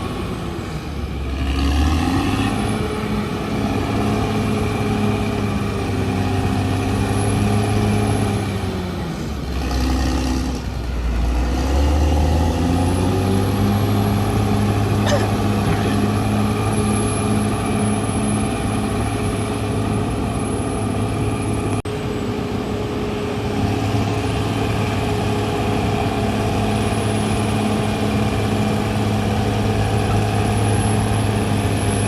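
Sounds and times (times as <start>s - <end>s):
bulldozer diesel engine under load: 0.0s - 32.0s.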